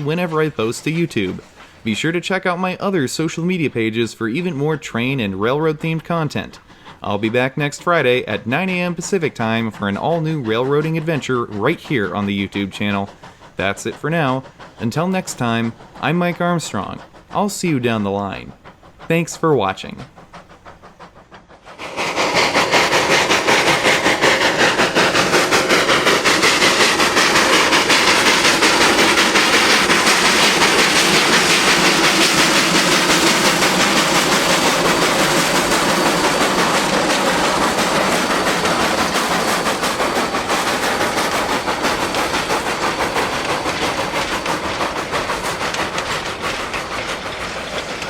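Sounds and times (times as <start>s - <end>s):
freight train wheels clattering: 0.0s - 48.0s.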